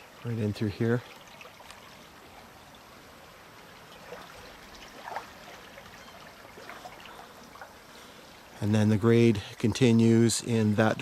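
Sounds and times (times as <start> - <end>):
creek running: 0.0 - 11.0.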